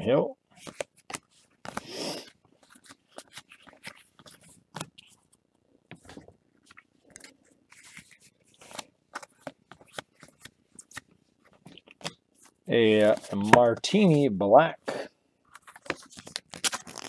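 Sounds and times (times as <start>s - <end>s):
trading cards flipping: 0.6s - 14.2s, 15.5s - 17.0s.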